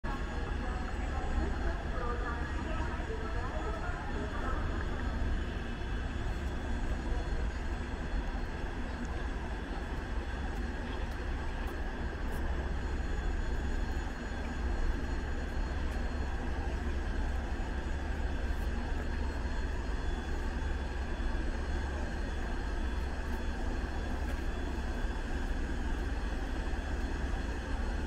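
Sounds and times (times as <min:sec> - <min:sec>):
electric locomotive motors humming: 0:00.0 - 0:28.0.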